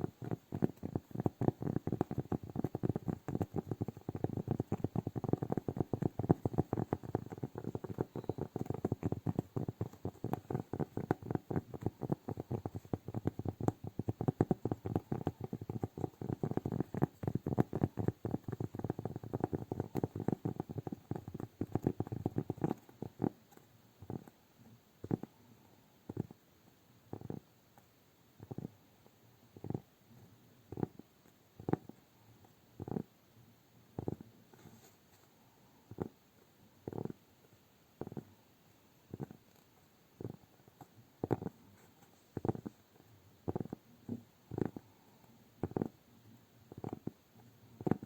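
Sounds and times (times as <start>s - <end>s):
small taps and crackles: 0.0s - 25.4s, 26.0s - 33.1s, 33.9s - 38.3s, 39.1s - 46.0s, 46.6s - 48.0s.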